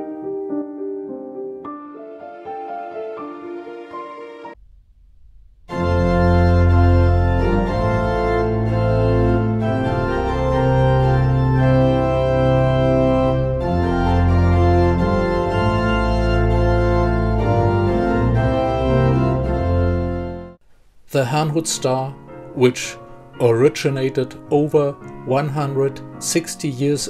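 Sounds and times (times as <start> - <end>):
organ music: 0.0 - 4.6, 5.7 - 20.6, 21.2 - 27.0.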